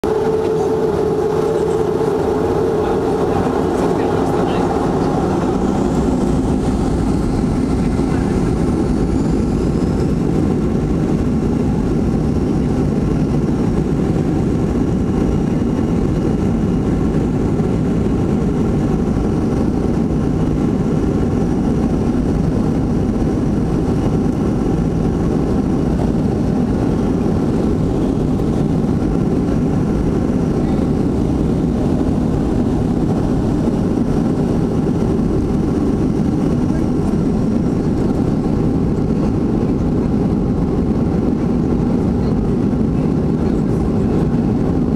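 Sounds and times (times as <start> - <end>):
jet engine fan whine: 0.0 - 44.9
jet engines rumbling: 0.0 - 44.9.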